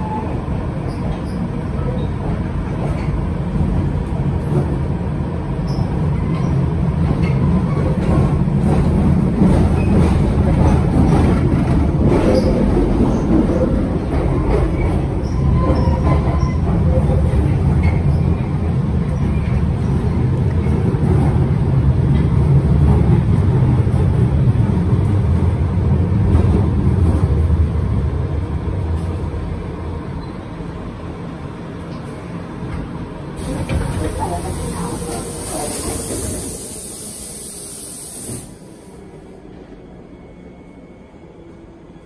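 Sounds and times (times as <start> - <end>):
train rumbling from inside carriage: 0.0 - 42.0.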